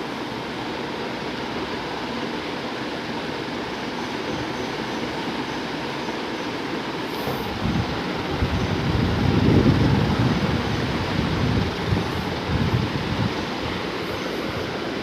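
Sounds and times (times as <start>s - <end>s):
ceiling fan rushing air: 0.0s - 15.0s.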